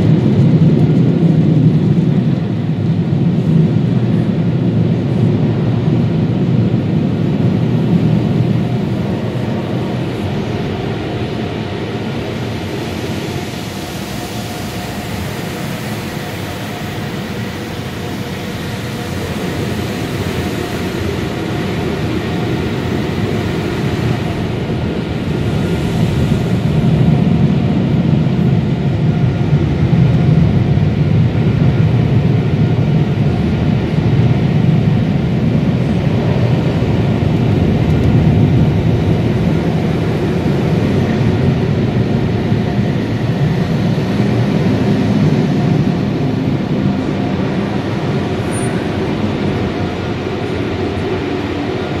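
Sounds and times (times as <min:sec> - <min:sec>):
air blowers rushing: 0:00.0 - 0:52.0.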